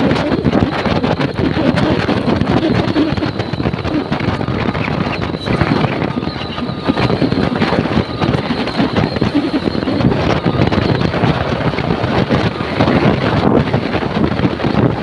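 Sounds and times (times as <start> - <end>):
moving vehicle rumble: 0.0 - 15.0
wind buffeting microphone: 0.0 - 15.0.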